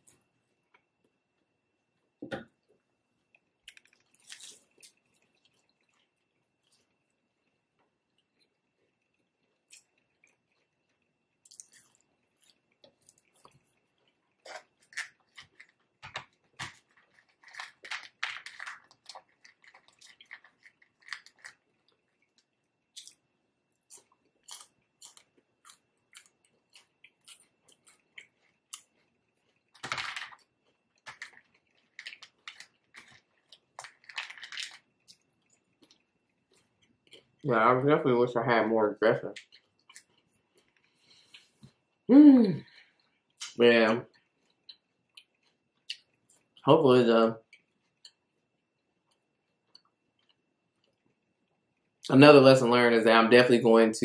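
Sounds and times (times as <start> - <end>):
person chewing crisp salad: 2.6 - 37.4, 39.3 - 46.6, 47.4 - 52.1.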